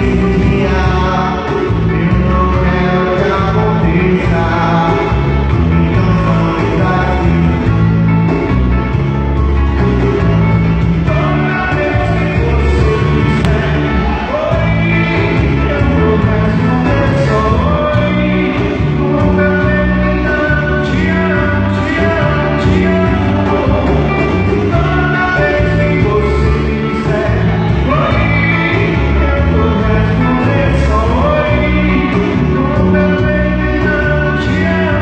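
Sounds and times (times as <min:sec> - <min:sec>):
person singing: 0:00.0 - 0:08.5, 0:09.4 - 0:35.0
live band playing amplified music: 0:00.0 - 0:35.0.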